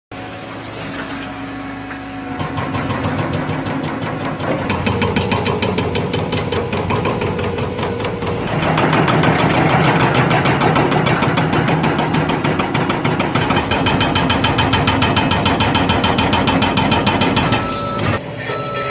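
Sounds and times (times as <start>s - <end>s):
diesel engine running: 0.2s - 18.7s
hydraulic breaker hammering: 0.7s - 18.9s.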